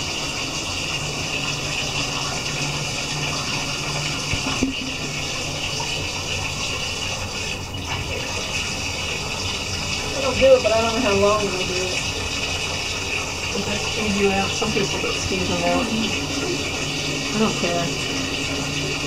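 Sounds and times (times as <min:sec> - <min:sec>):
faucet water splashing into sink: 0:00.0 - 0:19.0.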